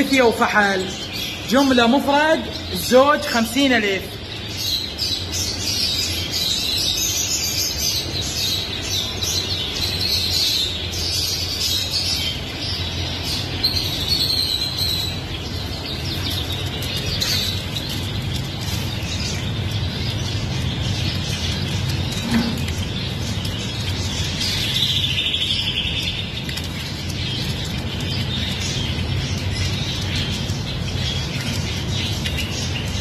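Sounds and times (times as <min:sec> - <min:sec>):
canaries singing and chirping: 0:00.0 - 0:33.0.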